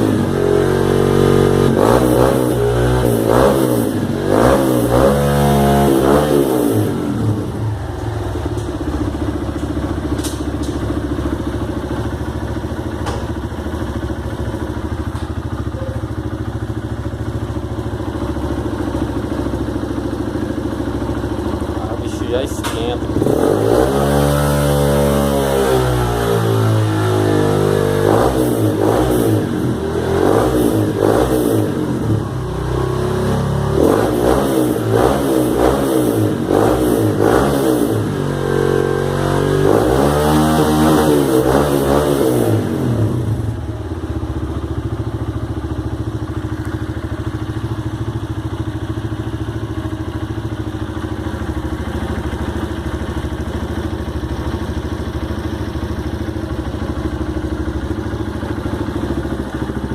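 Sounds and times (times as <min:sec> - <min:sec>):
motorcycle engine idling: 0:00.0 - 0:24.5, 0:25.1 - 0:34.9, 0:42.0 - 0:59.9
motorcycle engine revving: 0:00.0 - 0:59.9.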